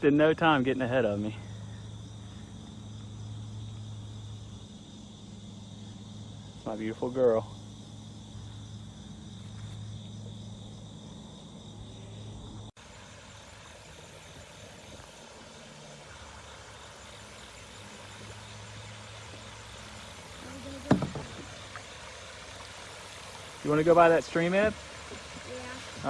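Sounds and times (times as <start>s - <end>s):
insects trilling: 0.0s - 26.0s
steady low hum: 0.1s - 25.8s.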